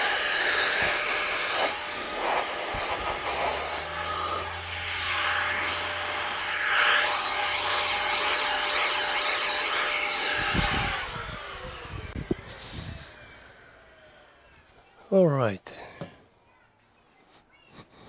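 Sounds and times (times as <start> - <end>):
air blower hissing: 0.0 - 14.7
fan whine: 0.0 - 15.3.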